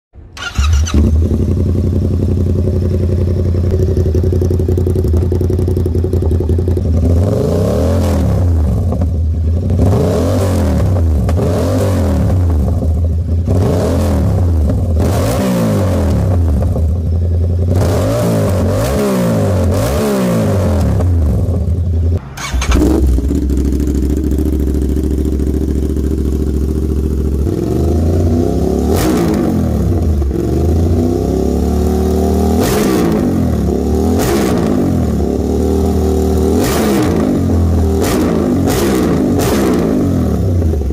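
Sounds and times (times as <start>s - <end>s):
motorcycle engine idling and revving: 0.2s - 40.9s.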